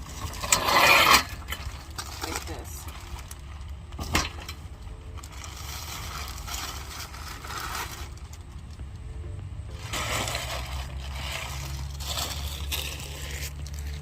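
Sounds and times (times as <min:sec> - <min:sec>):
frame parts scraping and rustling: 0:00.0 - 0:08.6, 0:09.7 - 0:14.0
steady low hum: 0:00.0 - 0:14.0.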